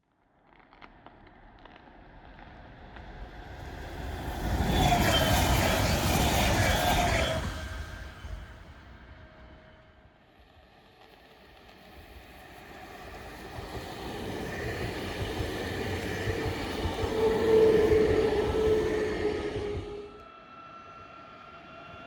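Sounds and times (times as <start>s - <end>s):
electric train approaching with whine: 2.8s - 22.0s.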